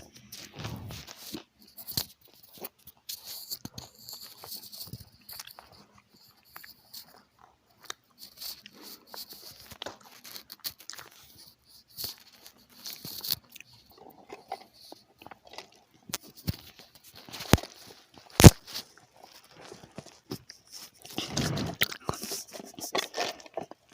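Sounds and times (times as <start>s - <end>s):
crunchy chewing: 0.0s - 23.9s.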